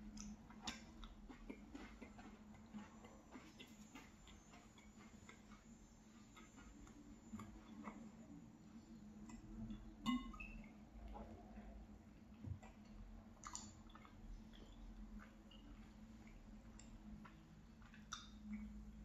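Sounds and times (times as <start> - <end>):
chewing cookie: 0.0 - 19.0.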